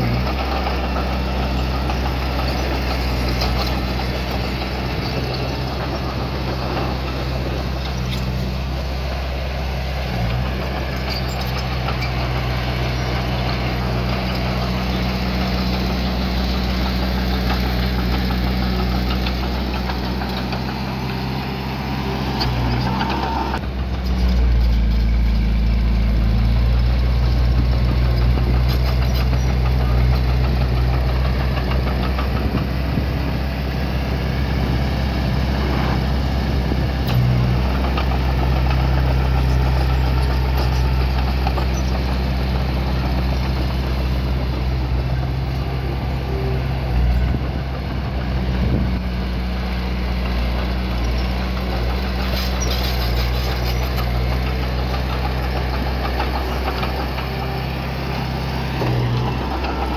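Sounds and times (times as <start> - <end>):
earthmoving diesel engine running: 0.0 - 59.9.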